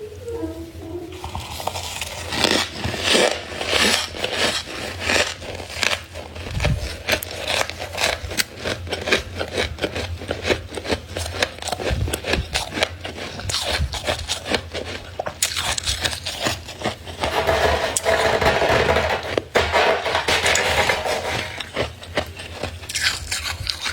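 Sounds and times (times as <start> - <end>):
freezer frost being scraped: 0.3 - 23.9.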